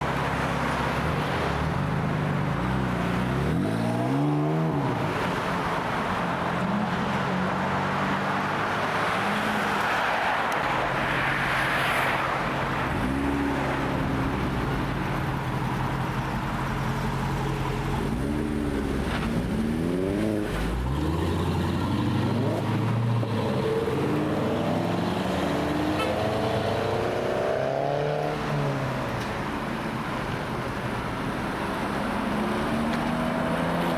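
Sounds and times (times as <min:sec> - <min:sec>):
road noise: 0:00.0 - 0:33.9
car engines revving: 0:00.1 - 0:33.9.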